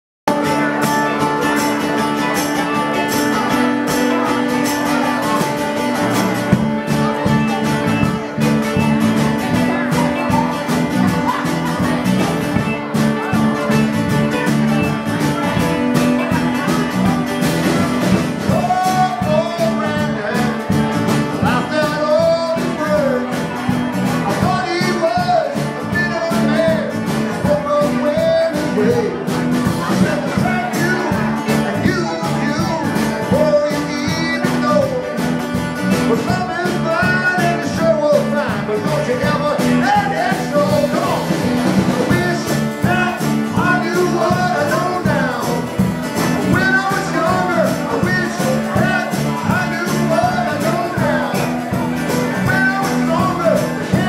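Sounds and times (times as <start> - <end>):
country-rock band playing: 0.3 - 54.0.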